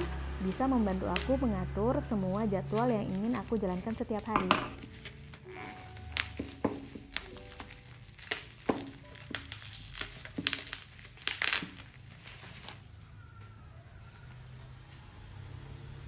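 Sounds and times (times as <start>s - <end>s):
plastic wrapping crinkling: 0.0s - 13.4s.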